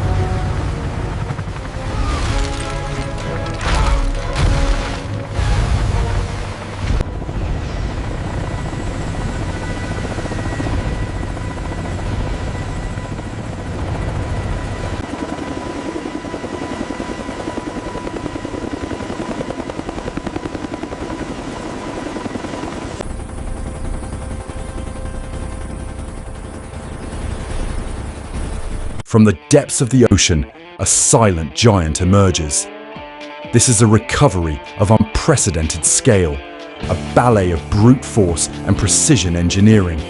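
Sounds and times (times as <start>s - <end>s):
helicopter rotors beating: 0.0s - 40.0s.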